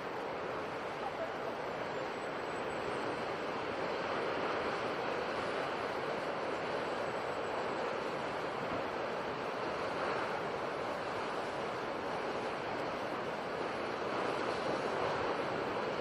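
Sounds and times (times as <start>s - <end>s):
sea surf washing: 0.0s - 16.0s.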